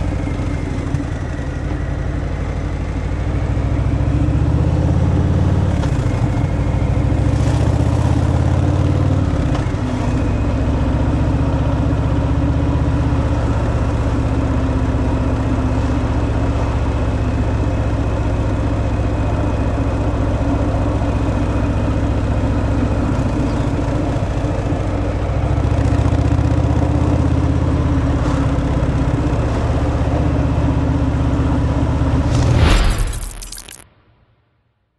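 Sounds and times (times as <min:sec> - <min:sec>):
motorcycle engine running: 0:00.0 - 0:32.7.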